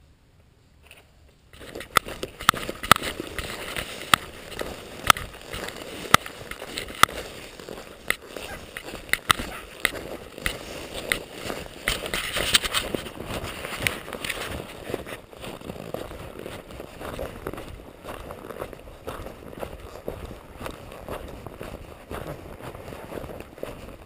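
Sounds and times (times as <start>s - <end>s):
rustling: 0.6s - 24.0s
footsteps crunching through snow: 1.5s - 24.0s.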